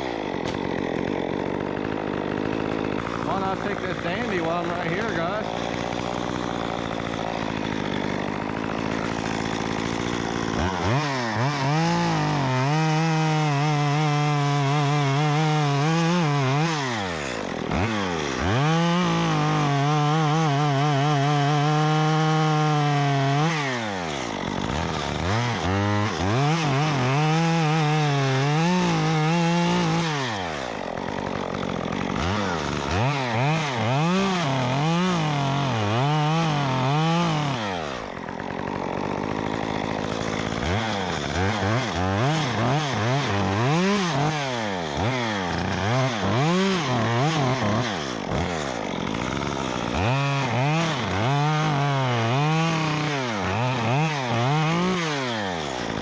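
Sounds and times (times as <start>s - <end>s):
chainsaw cutting through wood: 0.0s - 56.0s
chainsaw idling and revving: 0.0s - 56.0s.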